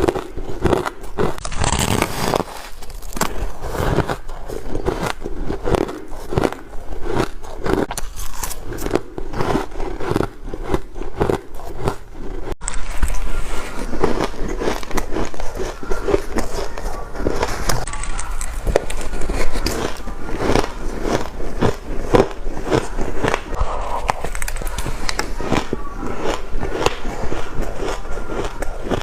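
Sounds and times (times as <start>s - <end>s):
crunching shaved ice: 0.0s - 29.0s.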